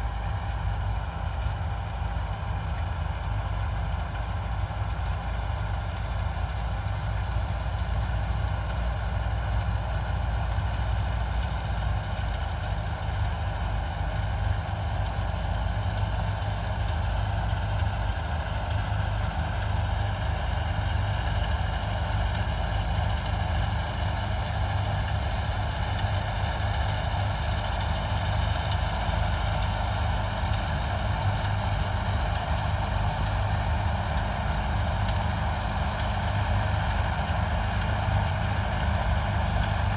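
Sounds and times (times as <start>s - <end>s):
diesel machinery engine rumble: 0.0s - 39.9s.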